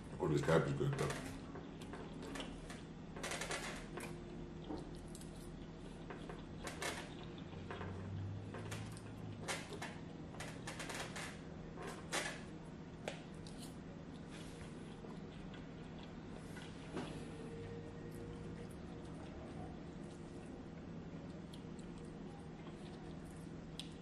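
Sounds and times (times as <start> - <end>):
chewing: 1.0 - 2.9, 3.8 - 10.6, 13.0 - 24.0.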